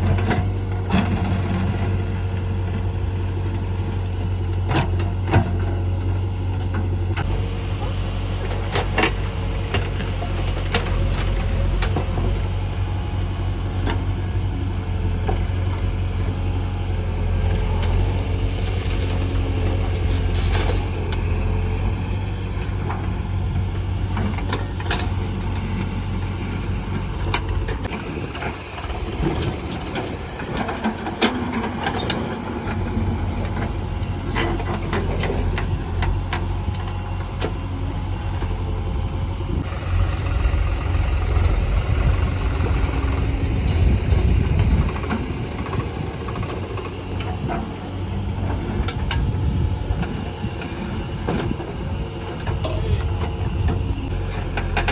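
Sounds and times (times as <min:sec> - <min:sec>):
heavy diesel engine under load: 0:00.0 - 0:54.9.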